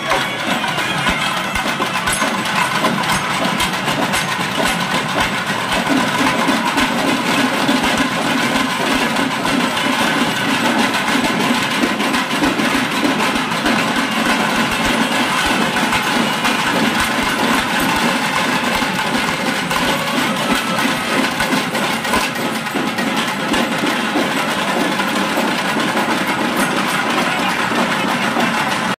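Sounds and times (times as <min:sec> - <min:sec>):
metallic jingling: 0:00.0 - 0:27.7
barrel drums beaten with sticks: 0:00.0 - 0:28.9.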